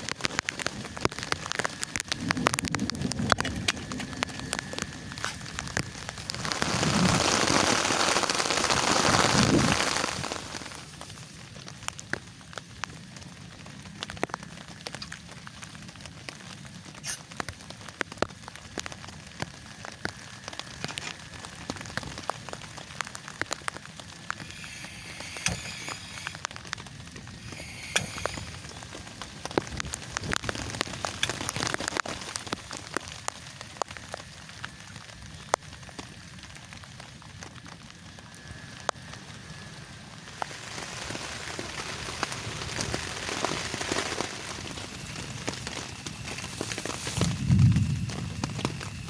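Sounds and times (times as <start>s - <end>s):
rain drops tapping on a surface: 0.0s - 49.0s.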